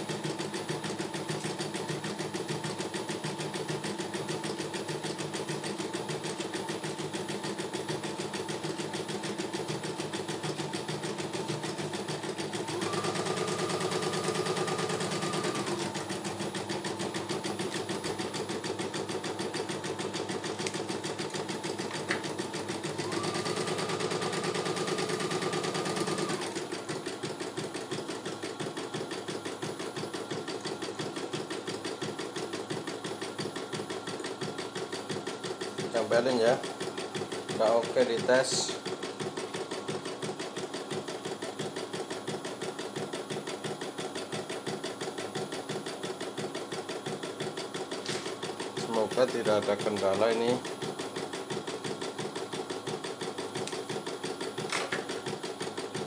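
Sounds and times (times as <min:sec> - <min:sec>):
embroidery machine stitching: 0:00.0 - 0:56.0.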